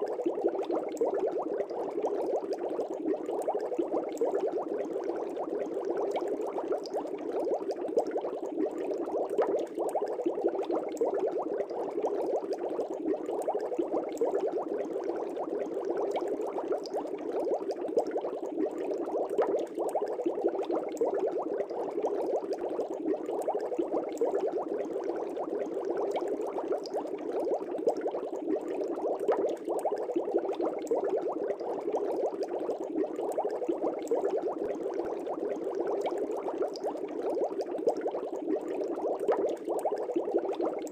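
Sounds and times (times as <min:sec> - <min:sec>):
air bubbling in fish tank: 0:00.0 - 0:40.9.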